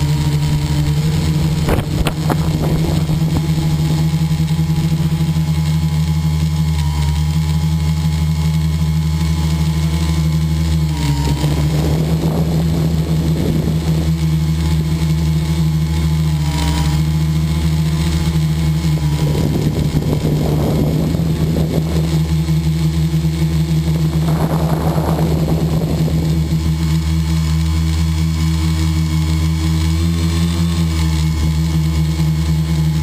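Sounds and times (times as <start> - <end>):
model airplane motor droning: 0.0 - 33.0.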